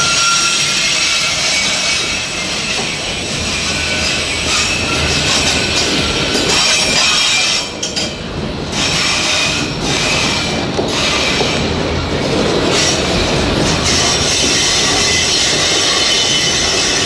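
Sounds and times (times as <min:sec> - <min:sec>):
train wheels rattling on rail: 0:00.0 - 0:17.0.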